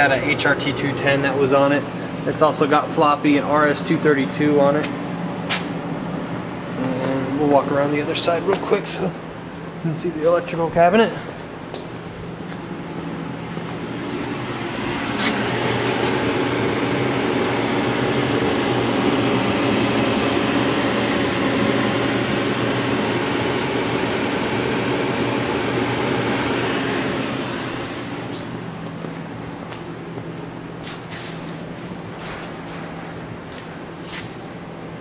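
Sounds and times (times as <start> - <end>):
cooling fans rushing: 0.0 - 35.0
machine hum with steady tones: 0.0 - 35.0.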